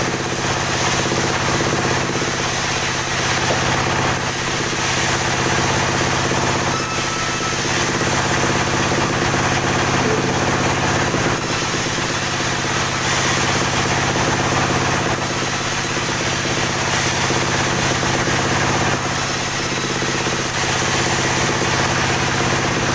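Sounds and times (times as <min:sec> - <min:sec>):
sawmill machine hum: 0:00.0 - 0:22.9.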